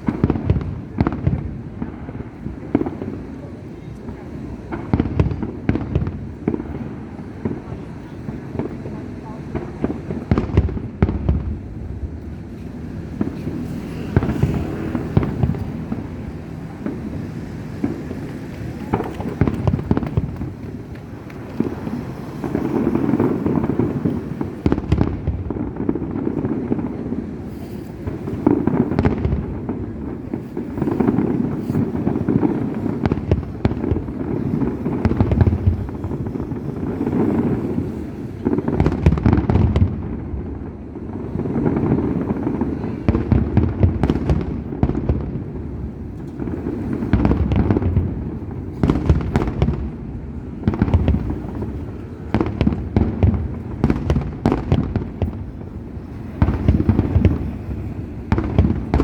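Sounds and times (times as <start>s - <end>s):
fireworks booming bursts: 0.0s - 59.0s
rolling rumble: 0.0s - 59.0s.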